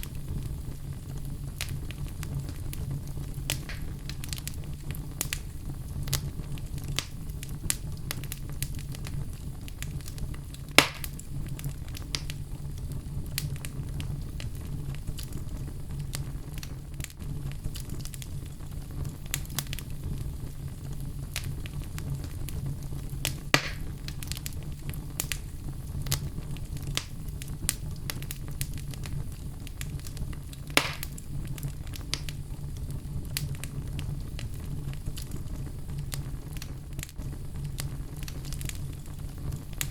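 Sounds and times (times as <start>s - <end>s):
fire crackling: 0.0s - 39.9s
fire popping: 0.0s - 39.9s.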